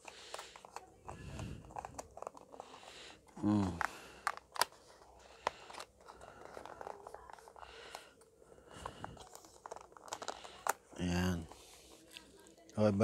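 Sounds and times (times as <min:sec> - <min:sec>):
packaging rustling: 0:00.0 - 0:12.7.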